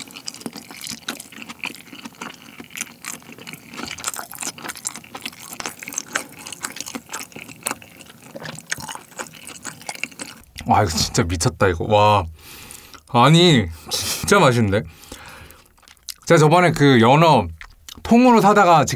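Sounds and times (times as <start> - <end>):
wet chewing: 0.0 - 11.2, 12.4 - 13.1, 14.9 - 18.5.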